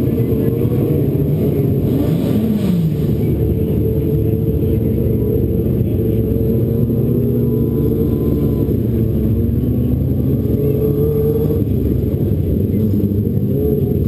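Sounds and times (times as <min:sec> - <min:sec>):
kart engines droning: 0:00.0 - 0:14.0.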